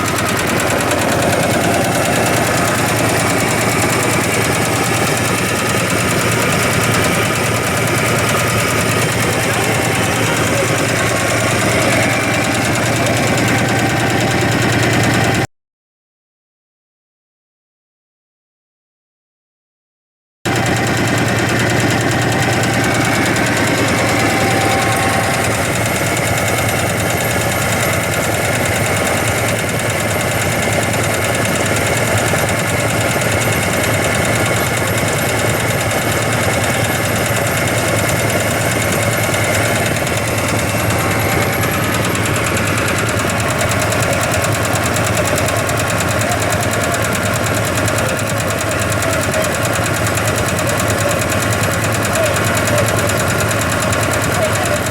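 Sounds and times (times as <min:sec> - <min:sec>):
diesel engine idling: 0:00.0 - 0:15.5, 0:20.5 - 0:54.9.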